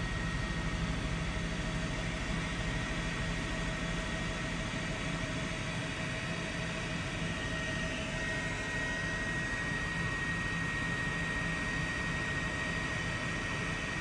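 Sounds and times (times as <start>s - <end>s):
helicopter engine roar: 0.0s - 13.9s.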